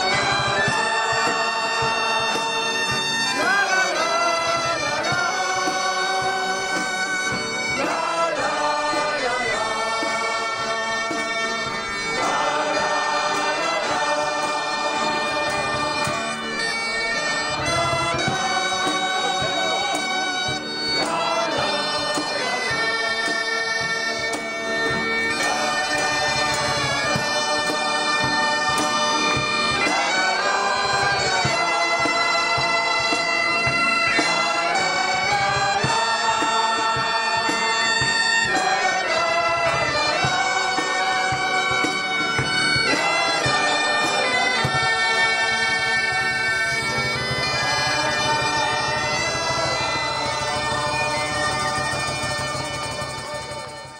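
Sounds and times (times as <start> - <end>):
bagpipes playing: 0.0 - 53.9
crowd singing along: 0.0 - 53.9.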